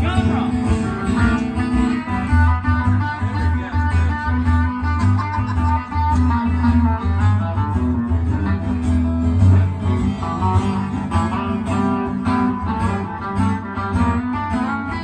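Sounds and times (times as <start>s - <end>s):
acoustic guitar strumming: 0.0s - 15.0s
electric guitar: 0.0s - 15.0s
steady bass line: 0.0s - 15.0s.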